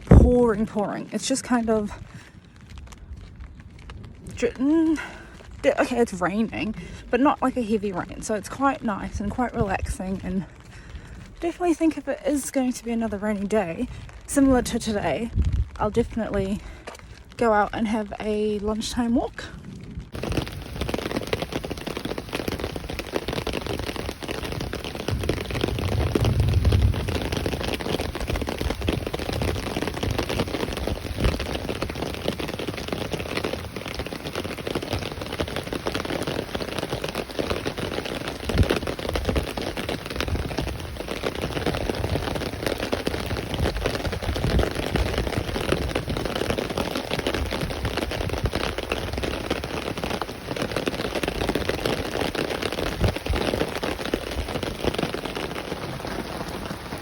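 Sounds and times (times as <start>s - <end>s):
rain on an umbrella: 0.0s - 57.0s.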